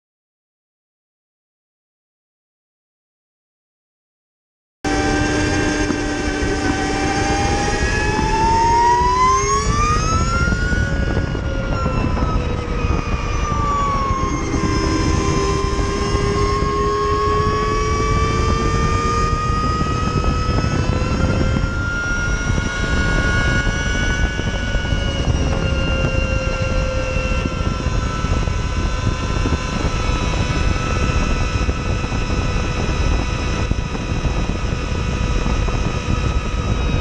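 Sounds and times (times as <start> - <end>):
electric motorcycle motor whining: 4.9 - 37.0
wind rush: 4.9 - 37.0.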